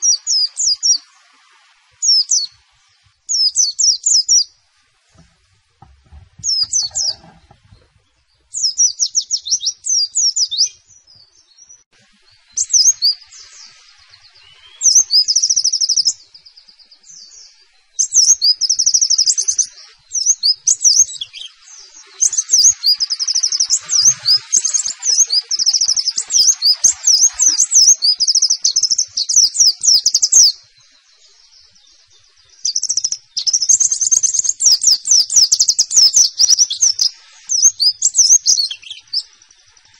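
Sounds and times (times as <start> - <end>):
white-eye bird singing rapid chirps: 0.0 - 4.6, 6.3 - 39.9.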